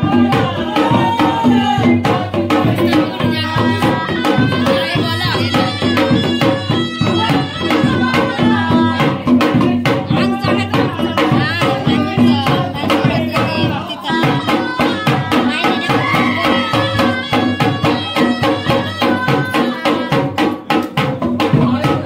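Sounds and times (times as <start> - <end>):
hand-drum beat: 0.0 - 22.0
person singing: 0.0 - 22.0.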